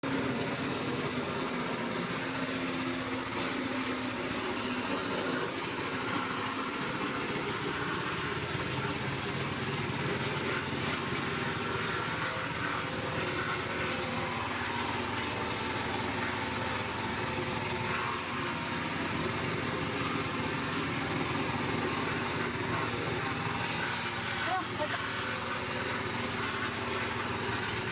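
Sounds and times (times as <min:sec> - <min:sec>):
wood chipper diesel engine running: 0:00.0 - 0:27.9.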